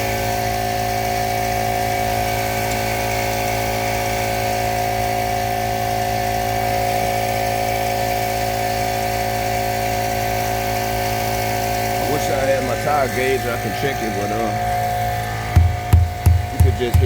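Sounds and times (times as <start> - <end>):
air compressor motor hum: 0.0 - 17.0.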